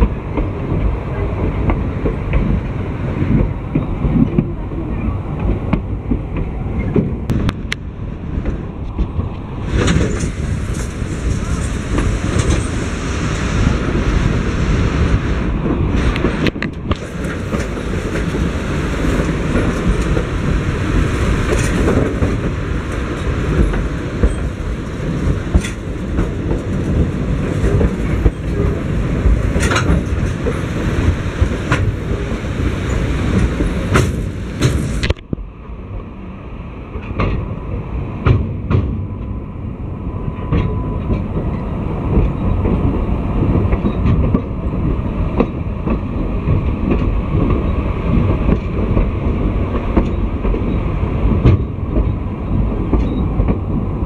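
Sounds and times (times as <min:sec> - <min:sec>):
train cars rumbling and rattling: 0:00.0 - 0:54.0.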